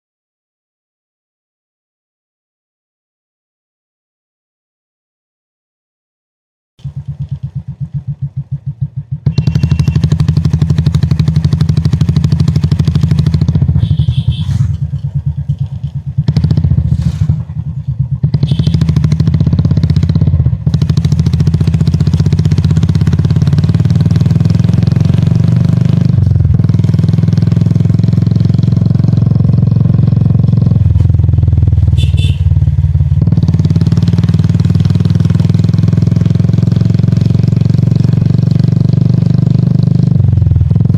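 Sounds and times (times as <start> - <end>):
motorcycle engine: 6.8 - 40.9.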